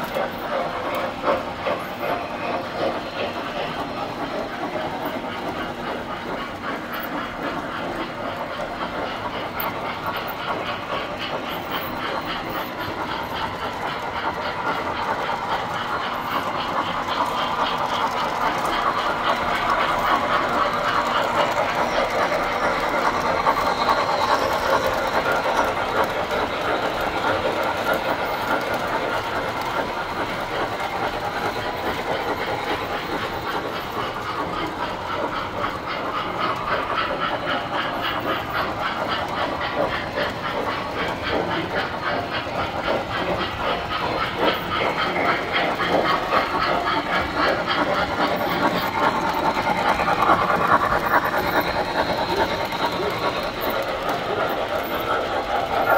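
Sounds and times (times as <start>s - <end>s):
model trains clattering on track: 0.0s - 55.9s.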